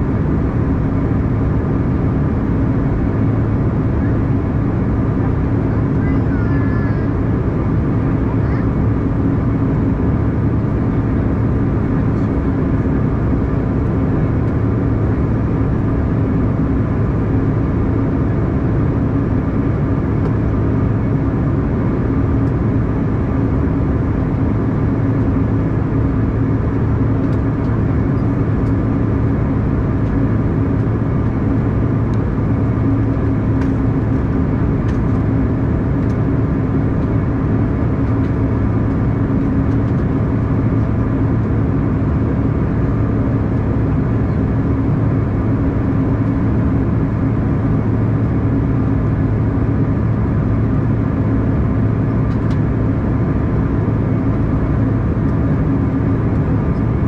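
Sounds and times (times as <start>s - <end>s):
jet engines droning: 0.0s - 57.0s.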